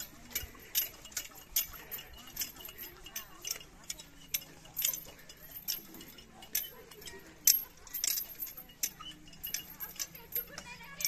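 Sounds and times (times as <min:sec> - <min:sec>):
faint voices: 0:00.0 - 0:11.0
sharp clicks and clinks: 0:00.0 - 0:11.0.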